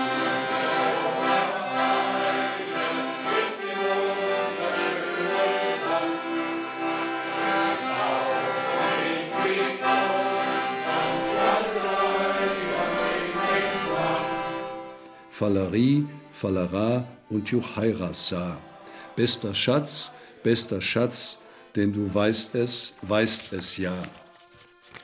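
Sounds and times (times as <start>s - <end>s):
accordion playing folk tune: 0.0s - 25.0s.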